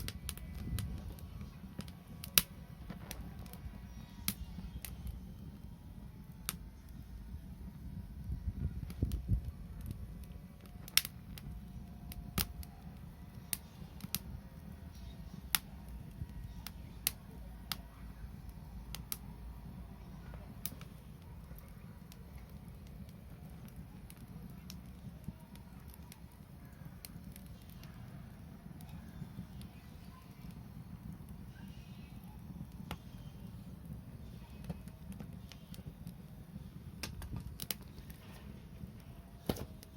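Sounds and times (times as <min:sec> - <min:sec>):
low steady rumble: 0:00.0 - 0:39.4
wood fire crackling: 0:00.0 - 0:39.9.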